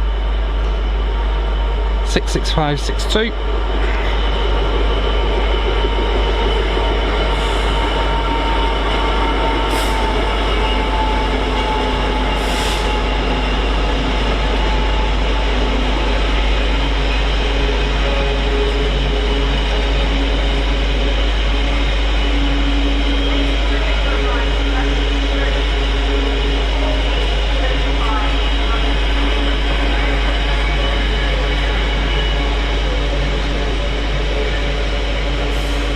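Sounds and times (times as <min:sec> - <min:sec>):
freight train rumbling past: 0:00.0 - 0:35.9.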